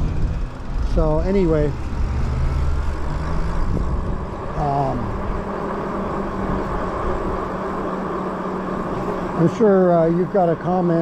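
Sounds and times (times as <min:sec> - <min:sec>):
wind and tyre noise: 0:00.0 - 0:11.0.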